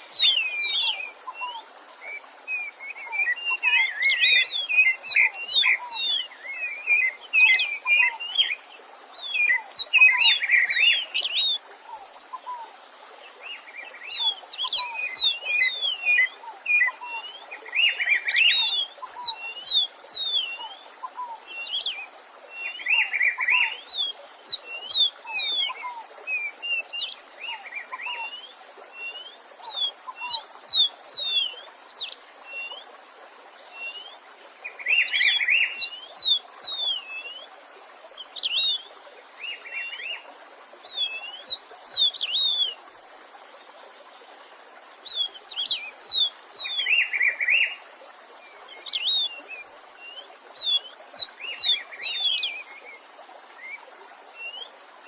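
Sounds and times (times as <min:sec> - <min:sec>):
songbird singing: 0:00.0 - 0:54.8
faint stream: 0:00.0 - 0:55.0.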